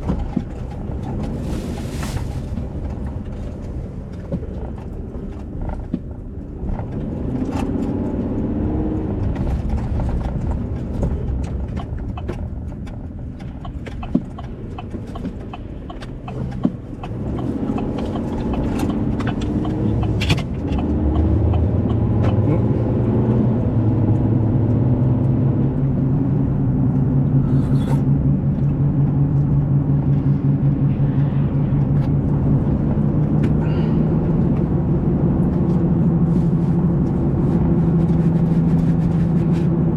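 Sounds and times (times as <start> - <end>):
vehicle engine from inside cab: 0.0 - 39.9.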